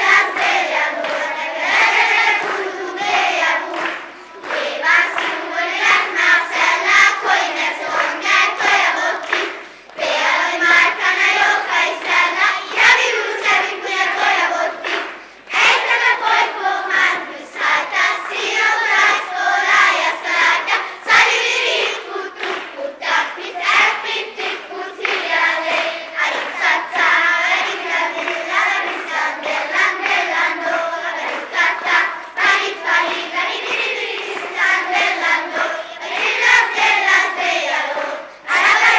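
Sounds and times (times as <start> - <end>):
children's choir singing: 0.0 - 38.9
sharp claps: 0.0 - 38.9.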